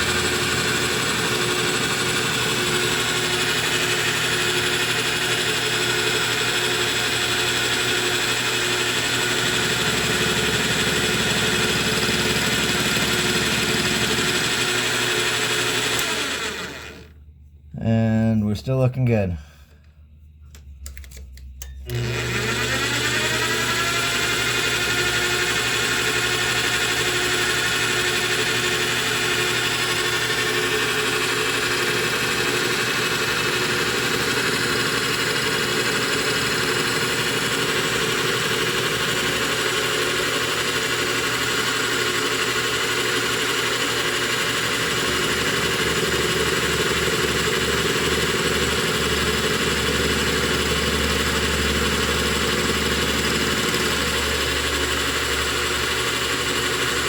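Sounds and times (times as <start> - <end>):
metal lathe running: 0.0 - 17.1, 21.9 - 57.0.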